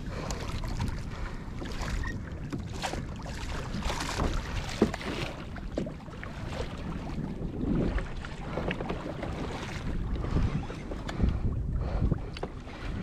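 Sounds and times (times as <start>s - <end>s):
water sloshing against kayak hull: 0.0s - 13.0s
wind buffeting microphone: 0.0s - 13.0s.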